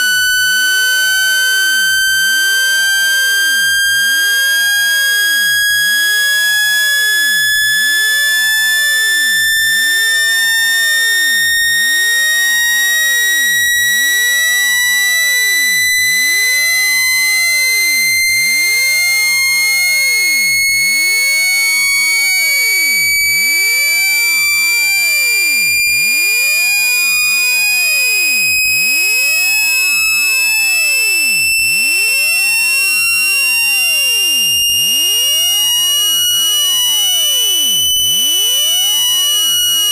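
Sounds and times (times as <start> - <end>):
shrill rising electronic tone: 0.0 - 39.9.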